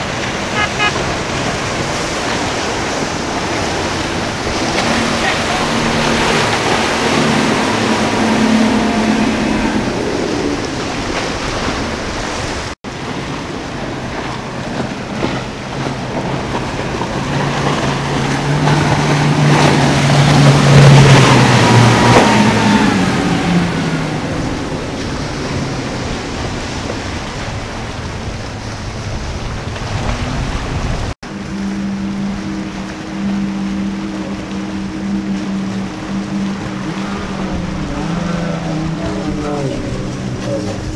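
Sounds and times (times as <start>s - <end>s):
hull spray and wake rushing: 0.0s - 40.9s
motorboat engine drone: 0.0s - 40.9s.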